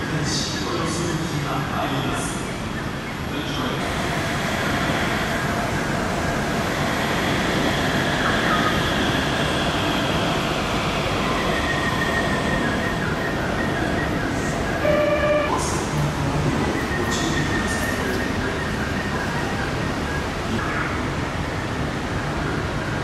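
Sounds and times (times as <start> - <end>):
train running noise: 0.0 - 23.0.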